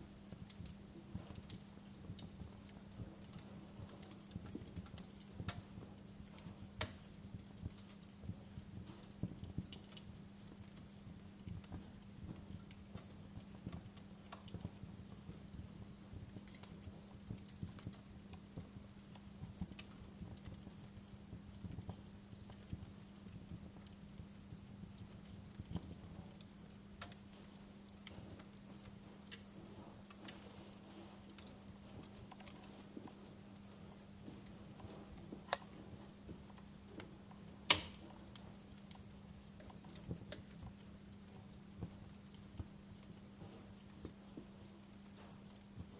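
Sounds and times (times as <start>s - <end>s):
steady low hum: 0.0s - 45.9s
wood fire crackling and popping: 0.0s - 45.9s.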